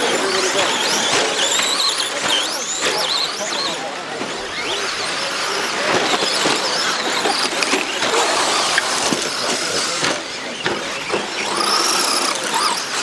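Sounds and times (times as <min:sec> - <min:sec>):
rc truck motors whining: 0:00.0 - 0:13.0.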